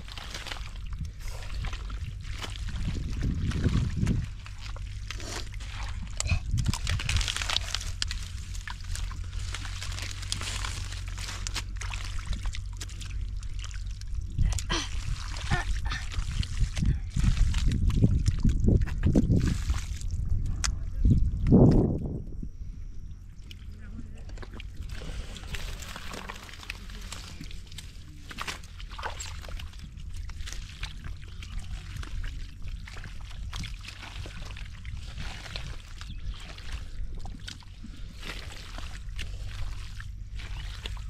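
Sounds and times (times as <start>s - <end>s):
shallow water splashing: 0.0s - 20.3s, 23.3s - 41.0s.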